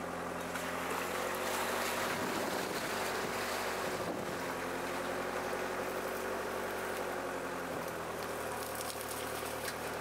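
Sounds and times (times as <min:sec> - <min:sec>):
vehicle engine running: 0:00.0 - 0:10.0
wind and road noise: 0:00.0 - 0:10.0.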